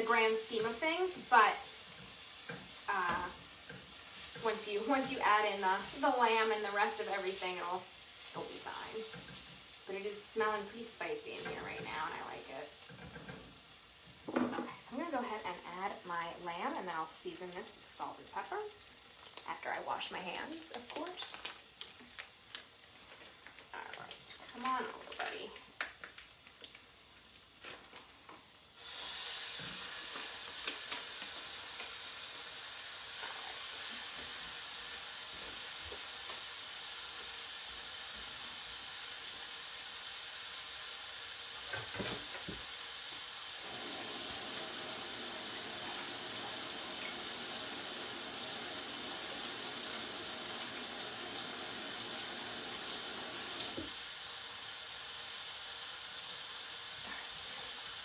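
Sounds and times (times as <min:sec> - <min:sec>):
meat sizzling in a frying pan: 0:00.0 - 0:58.0.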